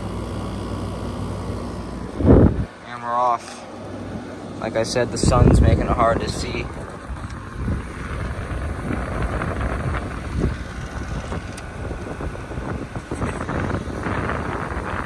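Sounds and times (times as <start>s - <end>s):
wind noise on microphone: 0.0s - 2.8s, 5.1s - 15.0s
window air conditioner running: 0.0s - 15.0s.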